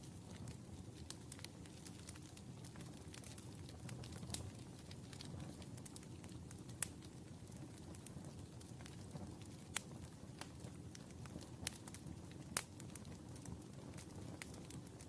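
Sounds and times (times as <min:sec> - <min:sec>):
fire rumbling with crackles: 0:00.0 - 0:15.0.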